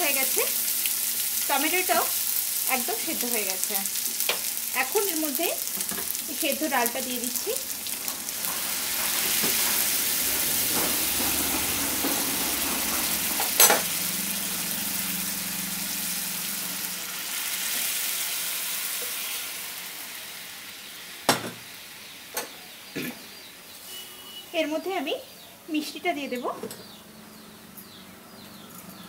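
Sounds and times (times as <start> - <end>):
dal hissing and sizzling in hot oil: 0.0 - 25.1.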